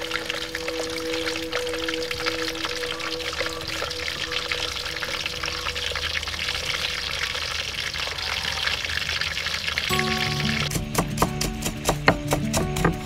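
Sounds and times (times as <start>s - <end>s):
fish frying in hot oil: 0.0s - 10.6s.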